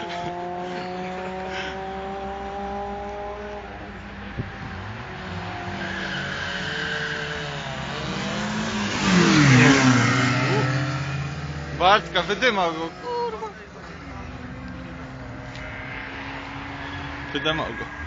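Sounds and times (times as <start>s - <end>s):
car engines accelerating hard: 0.0s - 18.0s.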